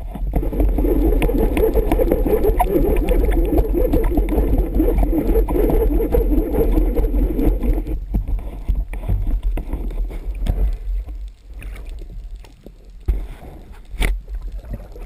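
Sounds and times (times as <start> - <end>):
small underwater clicks and knocks: 0.0 - 15.0
underwater bubbling rush: 0.0 - 15.0.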